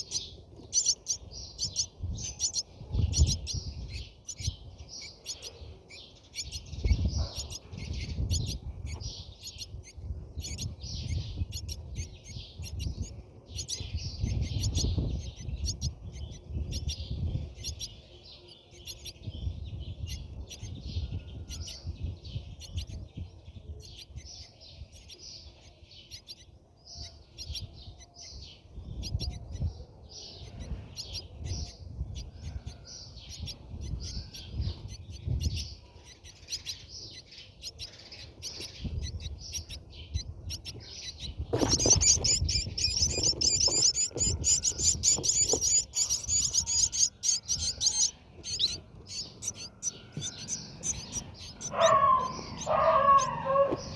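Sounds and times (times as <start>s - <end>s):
starlings chirping: 0.0s - 53.9s.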